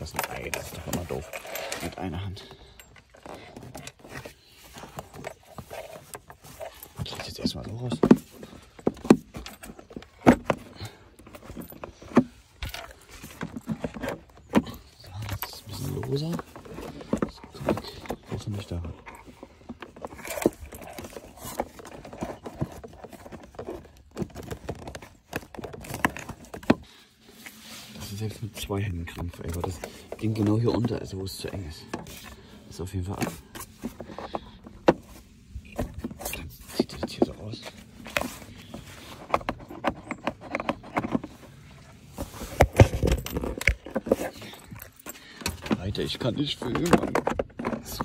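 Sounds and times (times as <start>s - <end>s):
plastic hose clicking and rubbing: 0.0s - 26.9s, 33.0s - 48.0s.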